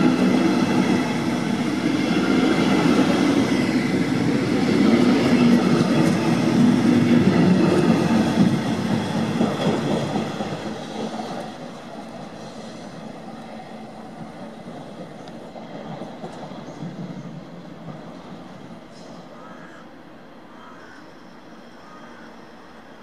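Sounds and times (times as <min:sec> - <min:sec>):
train wheels rolling: 0:00.0 - 0:19.4.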